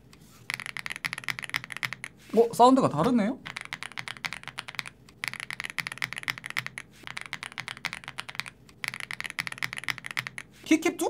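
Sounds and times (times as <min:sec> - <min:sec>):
fast typing on mechanical keyboard: 0:00.4 - 0:02.2, 0:03.0 - 0:10.6.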